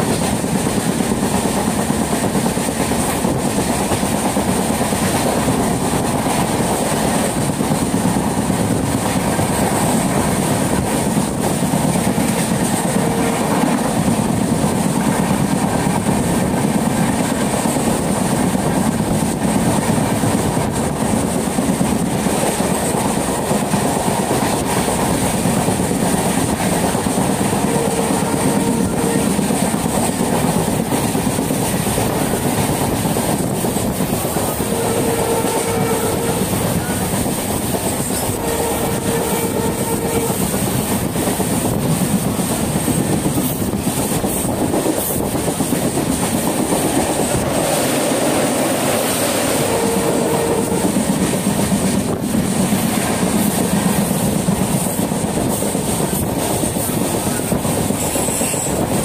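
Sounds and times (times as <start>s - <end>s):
train wheels rumbling and clattering: 0.0s - 59.0s.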